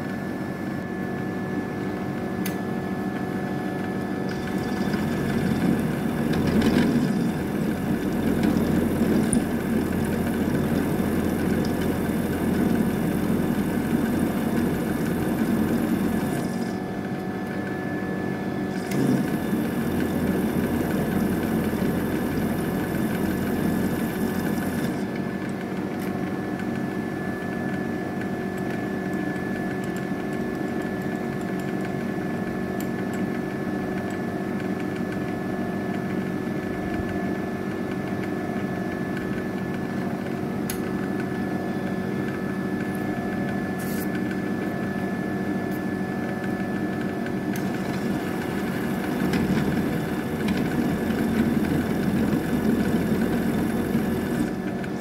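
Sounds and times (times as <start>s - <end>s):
milling machine whine: 0.0s - 34.8s, 35.4s - 55.0s.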